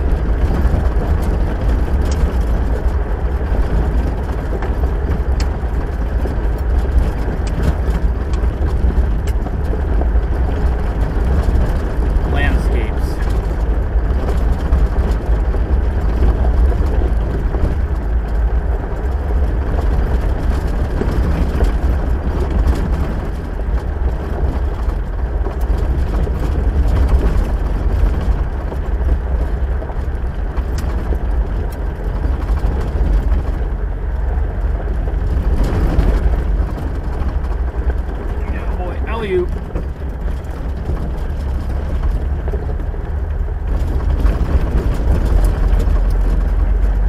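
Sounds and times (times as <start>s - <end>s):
vehicle engine and road rumble: 0.0s - 47.0s.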